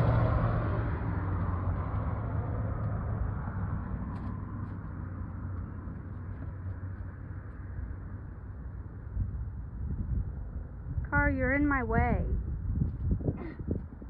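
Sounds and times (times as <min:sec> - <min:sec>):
low engine hum: 0:00.0 - 0:14.0
road traffic: 0:00.0 - 0:14.0.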